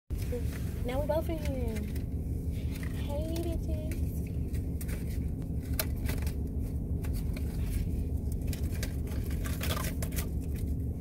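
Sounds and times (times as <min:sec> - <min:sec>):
engine and road rumble: 0:00.1 - 0:11.0.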